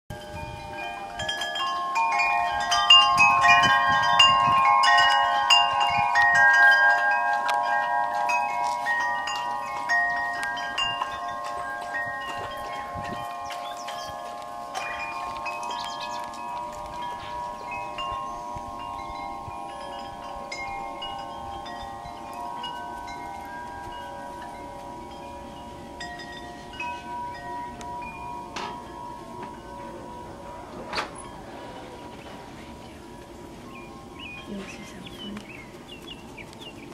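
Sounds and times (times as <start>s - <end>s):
wind chimes ringing: 0.1s - 36.9s.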